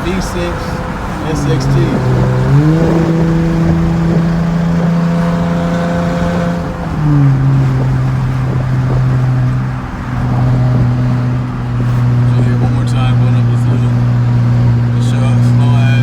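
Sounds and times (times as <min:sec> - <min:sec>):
car exhaust droning under load: 0:00.0 - 0:16.0.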